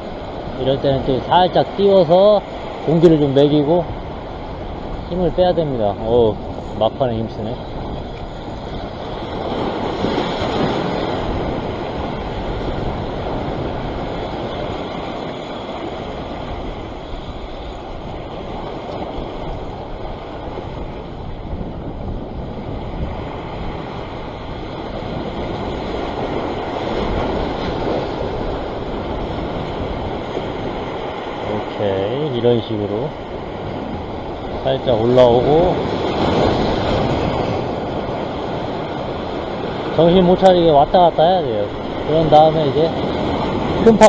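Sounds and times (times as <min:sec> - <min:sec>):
waves washing over rock: 0:00.0 - 0:44.0
wind buffeting microphone: 0:00.0 - 0:44.0.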